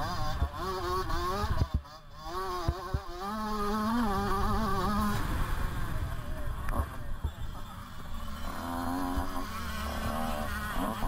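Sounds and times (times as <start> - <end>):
motocross bike engine revving: 0.0 - 11.0
wind rumbling on microphone: 0.0 - 11.0.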